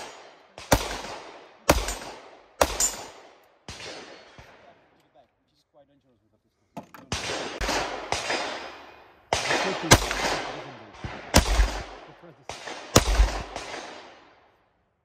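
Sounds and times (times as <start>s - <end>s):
pistol shots with echo: 0.0s - 4.8s, 7.0s - 14.6s.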